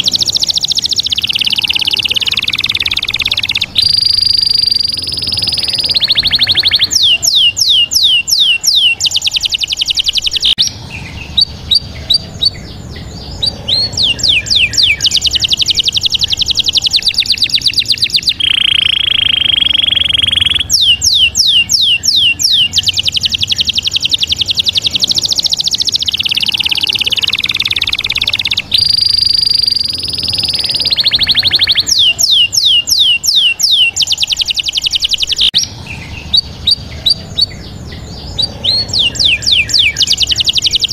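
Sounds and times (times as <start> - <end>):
high bird whistle: 0.0 - 10.7, 13.4 - 35.7, 38.3 - 40.9
bird chirps and trills: 0.0 - 40.9.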